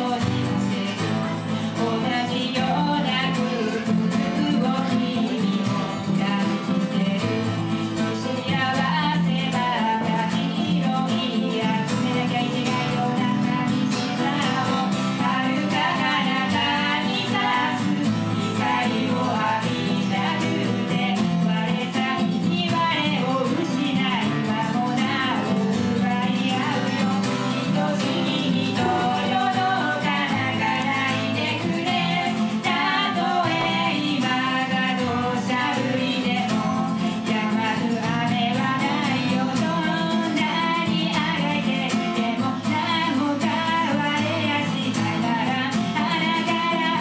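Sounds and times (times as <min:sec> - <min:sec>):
acoustic guitars strumming: 0:00.0 - 0:47.0
woman singing: 0:00.0 - 0:47.0.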